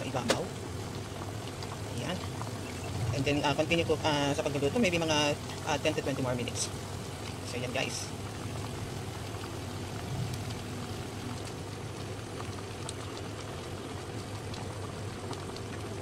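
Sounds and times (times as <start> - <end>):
stew simmering: 0.0 - 16.0.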